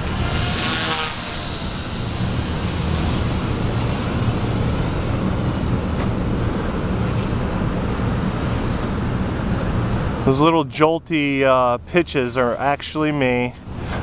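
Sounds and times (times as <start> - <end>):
rc helicopter whining: 0.0 - 14.0.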